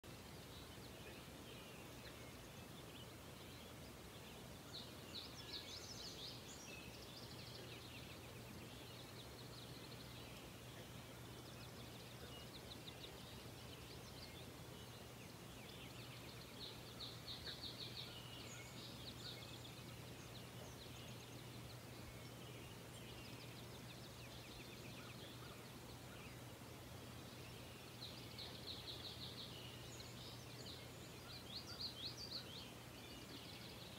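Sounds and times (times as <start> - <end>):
songbirds trilling: 0.0 - 33.9
steady low hum and hiss: 0.0 - 33.9.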